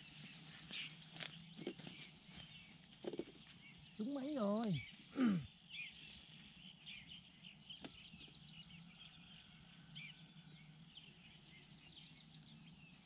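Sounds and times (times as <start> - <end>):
small birds twittering: 0.0 - 13.0.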